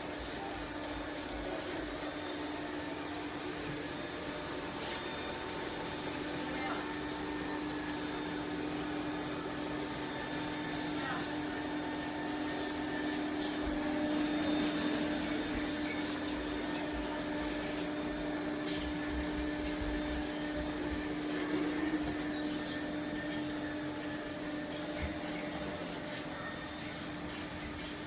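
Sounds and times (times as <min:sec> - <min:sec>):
robot vacuum motor hum: 0:00.0 - 0:28.0.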